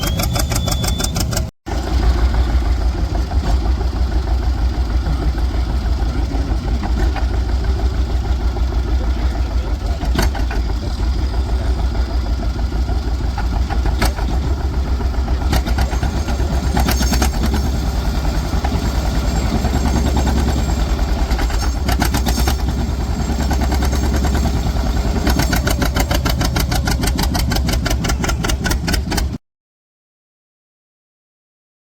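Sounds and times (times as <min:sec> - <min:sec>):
tractor engine running: 0:00.0 - 0:29.4.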